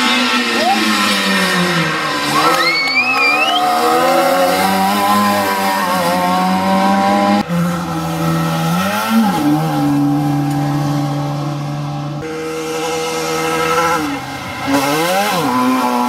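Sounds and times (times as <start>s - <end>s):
rally car engine revving high: 0.0s - 16.0s.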